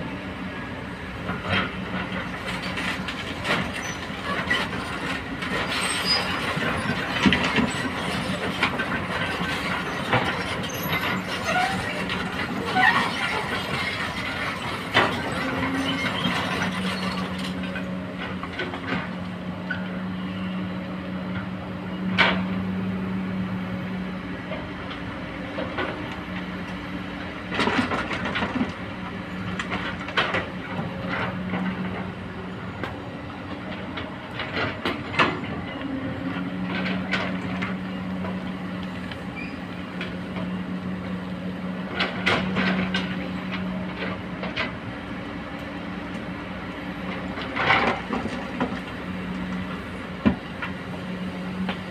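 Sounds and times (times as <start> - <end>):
excavator diesel engine droning: 0.0 - 51.9.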